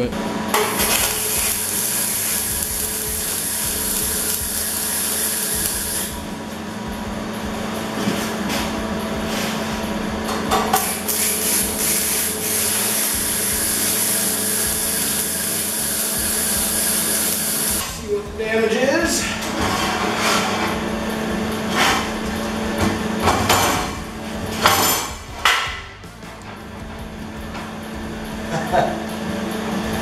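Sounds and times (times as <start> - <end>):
steady hum: 0.0 - 30.0
welder arc crackling and hissing: 0.0 - 30.0.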